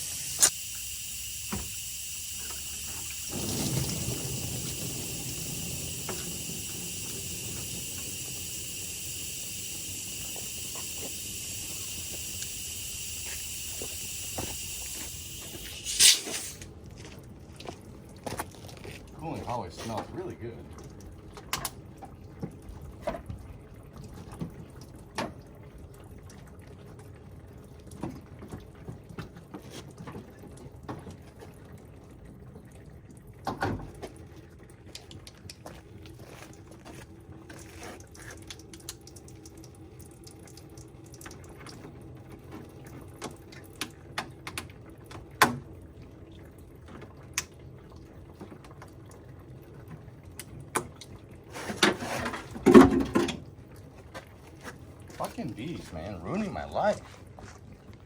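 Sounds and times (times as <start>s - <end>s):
coolant trickling into a pan: 0.0s - 58.0s.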